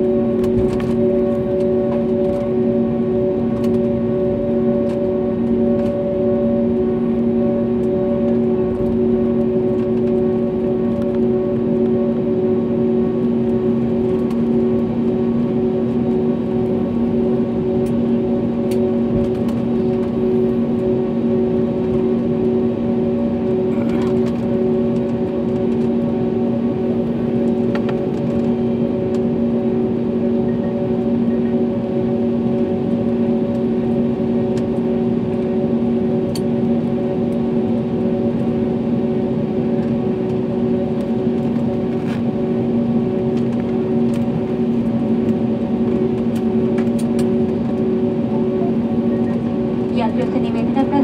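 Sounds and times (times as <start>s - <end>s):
aircraft cabin drone: 0.0s - 51.0s.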